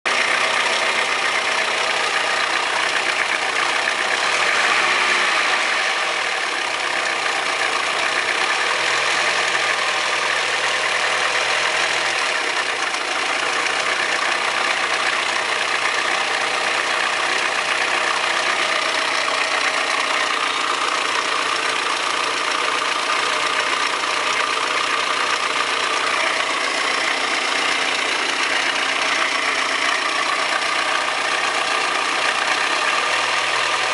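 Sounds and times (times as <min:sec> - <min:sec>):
engine idling with rattling tapping: 0:00.0 - 0:33.9.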